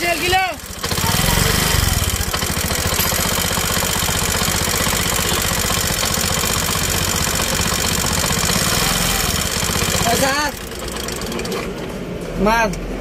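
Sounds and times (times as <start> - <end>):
auto-rickshaw engine idling: 0.0 - 12.2.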